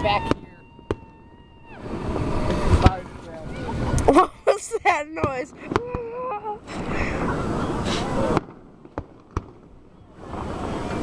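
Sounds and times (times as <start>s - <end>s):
firework bangs: 0.0s - 4.2s, 4.9s - 11.0s
fireworks crackling: 0.0s - 11.0s.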